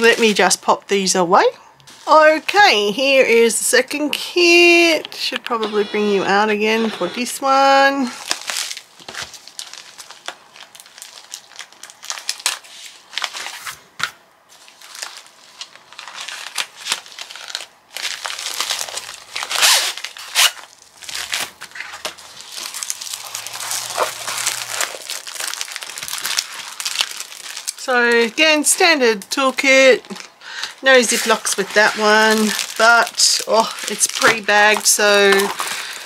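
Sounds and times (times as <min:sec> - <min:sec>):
plastic packaging crinkling: 0:04.8 - 0:13.8, 0:14.5 - 0:36.0.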